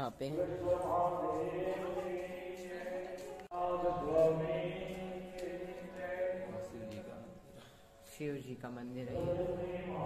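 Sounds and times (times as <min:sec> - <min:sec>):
devotional chanting: 0:00.0 - 0:10.0.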